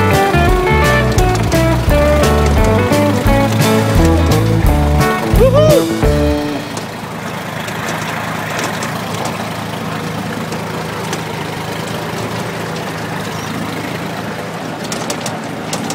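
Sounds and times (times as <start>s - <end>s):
tractor diesel engine idling: 0.0s - 15.9s.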